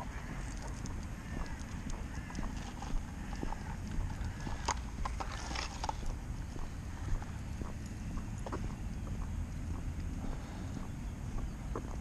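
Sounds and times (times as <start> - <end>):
footsteps on wet tarmac: 0.0 - 12.0
wind rumble on microphone: 0.0 - 12.0.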